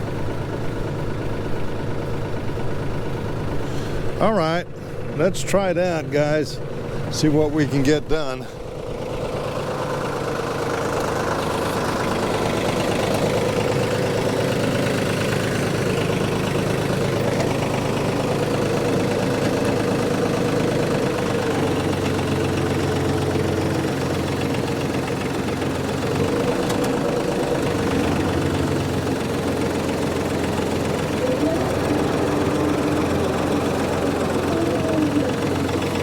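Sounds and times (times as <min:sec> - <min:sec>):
rotary mower mechanical whine: 0:00.0 - 0:36.0
tractor engine running: 0:00.0 - 0:36.0.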